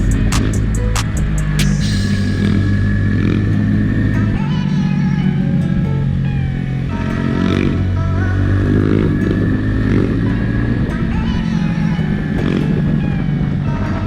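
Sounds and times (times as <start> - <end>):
music playing: 0.0 - 14.0.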